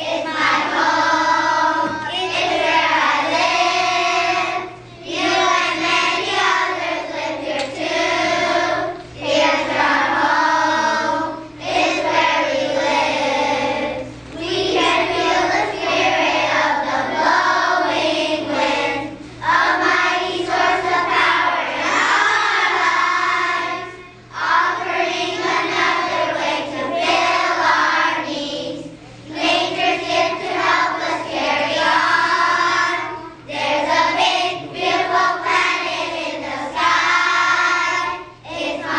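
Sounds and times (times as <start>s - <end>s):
children singing together: 0.0s - 38.9s.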